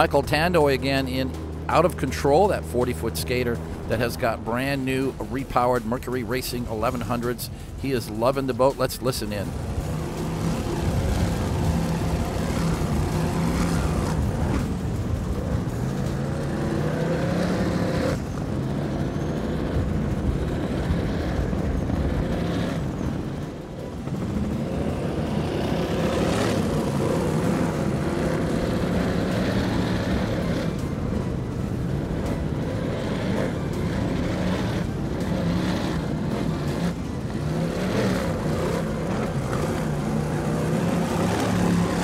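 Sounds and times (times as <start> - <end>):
boat engines running at speed: 0.0 - 42.0.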